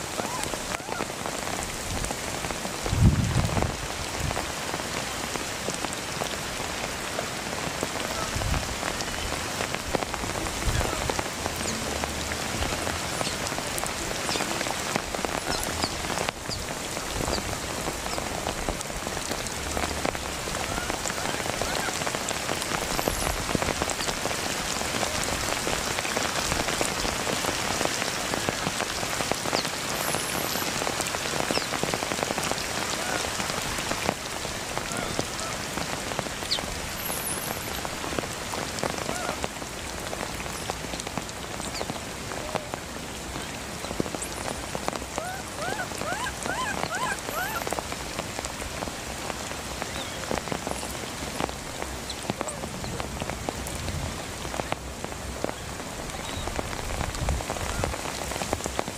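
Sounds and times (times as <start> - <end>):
rain falling on grass and leaves: 0.0 - 58.9.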